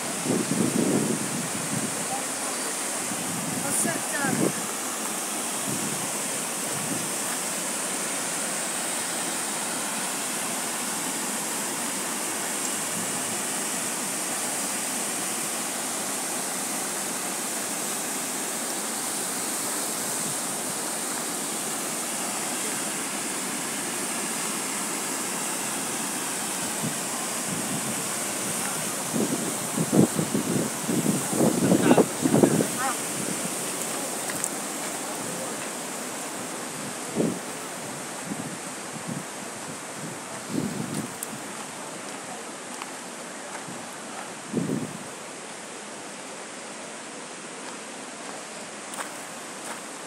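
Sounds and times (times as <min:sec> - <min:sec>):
water rushing over weir: 0:00.0 - 0:50.0.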